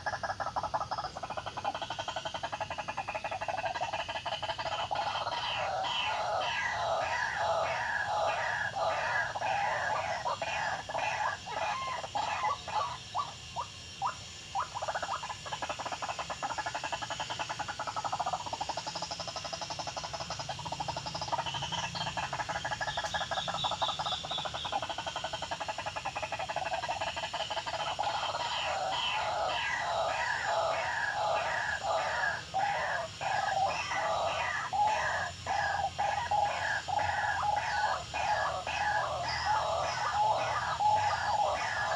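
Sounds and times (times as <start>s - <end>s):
waterhen croaking calls: 0.0s - 41.9s.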